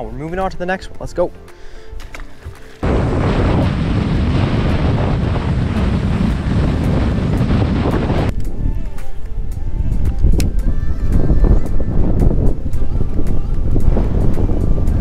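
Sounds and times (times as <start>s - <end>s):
wind buffeting microphone: 2.8s - 15.0s.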